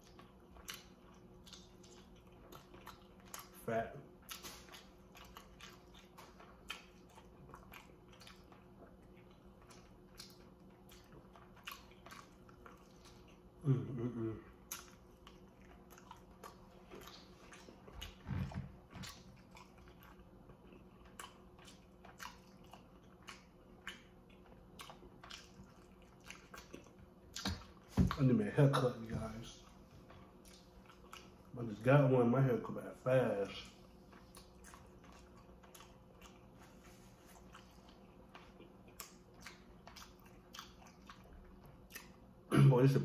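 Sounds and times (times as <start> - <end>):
person chewing and lip smacking: 0.0 - 31.8, 33.2 - 42.5.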